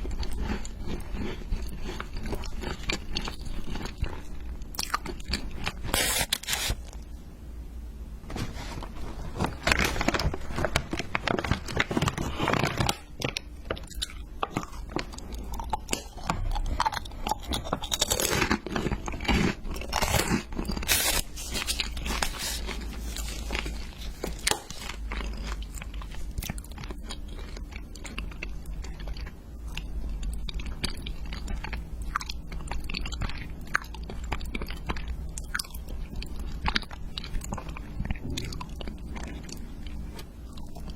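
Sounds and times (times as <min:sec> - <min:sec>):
crunchy bites and chewing: 0:00.0 - 0:07.1, 0:09.8 - 0:40.9.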